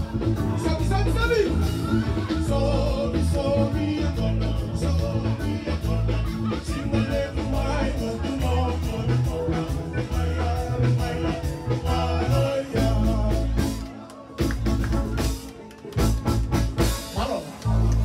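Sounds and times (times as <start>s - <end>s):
live band dance music with singing: 0.0s - 18.0s.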